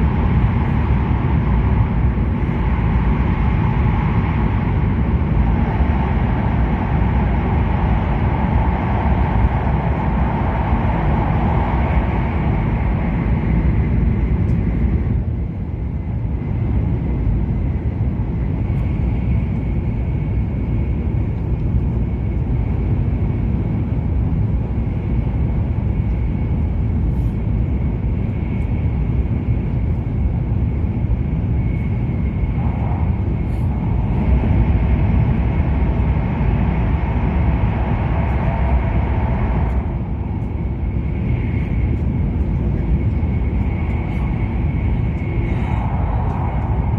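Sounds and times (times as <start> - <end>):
train cabin rumble and rush: 0.0 - 46.9.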